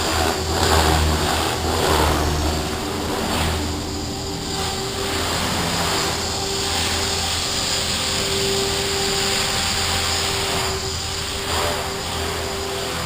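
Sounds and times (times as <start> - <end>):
rc helicopter motor whine: 0.0 - 13.0
rushing rotor noise: 0.0 - 13.0.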